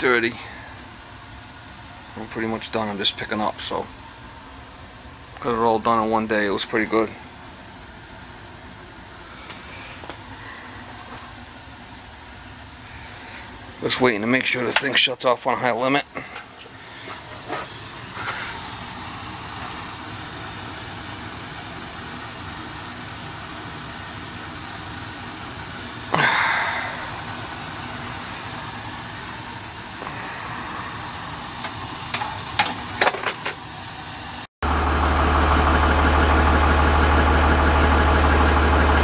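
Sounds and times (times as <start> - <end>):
gas boiler rushing: 0.0 - 39.0
truck engine idling: 0.0 - 39.0.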